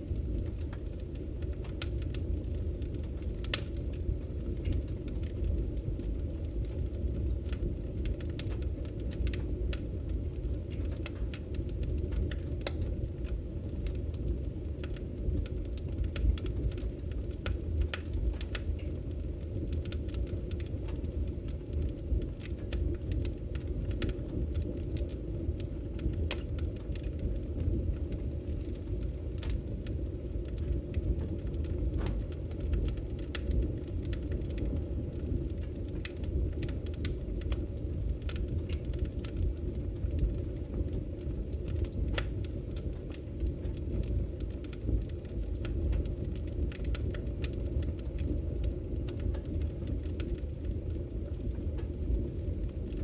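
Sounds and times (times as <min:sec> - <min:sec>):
fire crackles and pops: 0:00.0 - 0:53.0
wood fire low rumble: 0:00.0 - 0:53.0.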